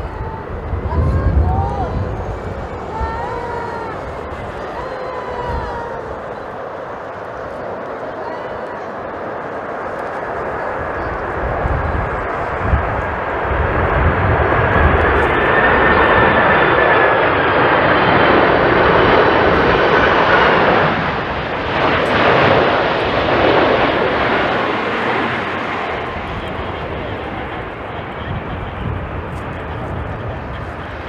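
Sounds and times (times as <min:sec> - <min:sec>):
jet airliner passing: 0:00.0 - 0:31.0
jet engine high whine: 0:00.0 - 0:31.0
wind rumbling on microphone: 0:00.0 - 0:31.0.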